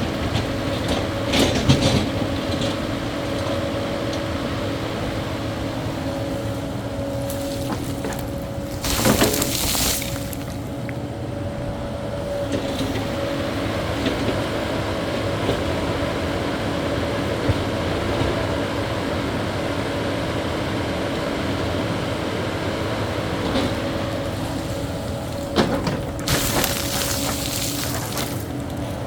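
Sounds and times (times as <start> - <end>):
diesel engine drone: 0.0 - 29.0.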